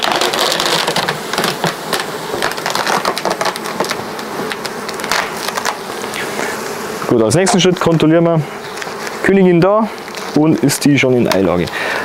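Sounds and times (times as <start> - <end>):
plastic sheet crackling: 0.0 - 6.6, 7.4 - 11.8
honeybees buzzing: 0.0 - 12.0.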